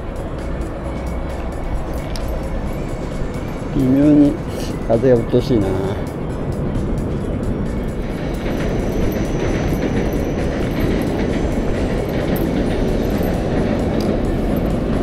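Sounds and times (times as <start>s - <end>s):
train rumbling across steel bridge: 0.0s - 15.0s.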